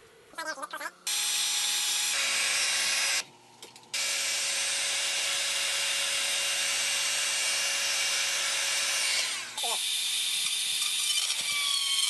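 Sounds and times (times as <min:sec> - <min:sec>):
electric power tool running: 0:01.1 - 0:03.2, 0:04.0 - 0:12.0.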